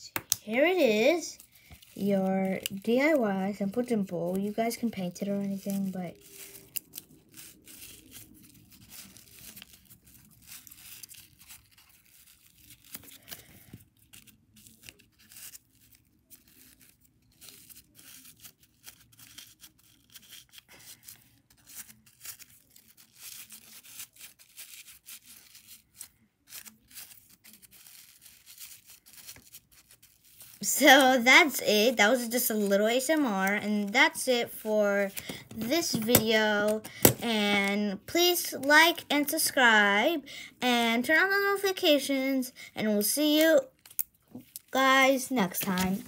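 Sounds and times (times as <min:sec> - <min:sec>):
plastic wrap crinkling: 0:00.1 - 0:37.9, 0:43.0 - 0:46.0.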